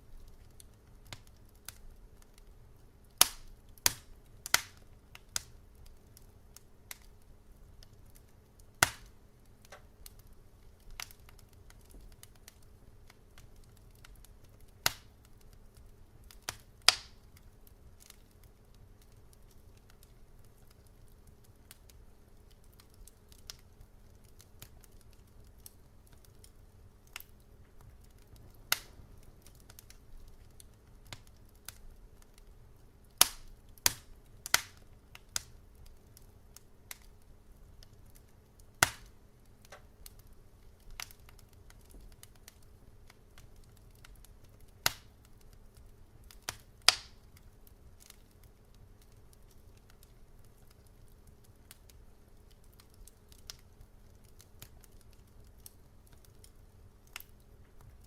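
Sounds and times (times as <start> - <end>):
faint steady low hum: 0.0 - 58.0
wood fire crackling and popping: 0.0 - 58.0.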